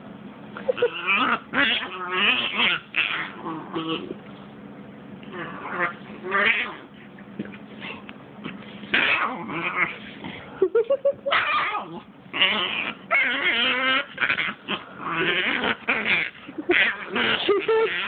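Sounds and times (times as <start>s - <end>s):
dog growling: 0.7s - 4.2s, 5.2s - 7.0s, 7.8s - 10.6s, 11.3s - 18.0s.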